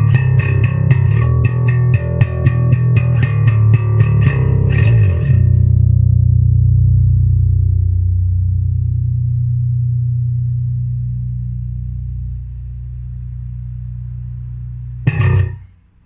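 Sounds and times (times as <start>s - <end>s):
electric bass plucked notes: 0.0s - 15.8s.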